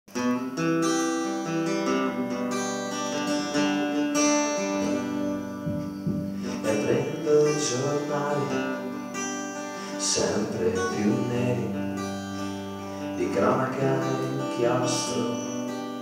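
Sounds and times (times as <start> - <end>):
acoustic guitar strumming chords: 0.1 - 16.0.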